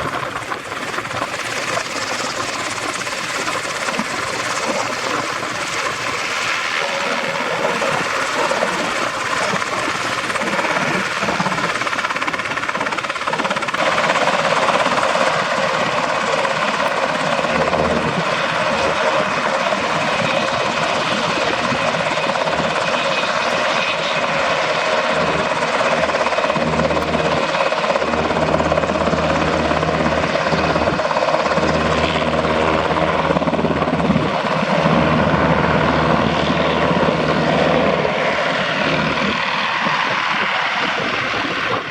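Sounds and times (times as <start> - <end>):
helicopter running: 0.0 - 41.9.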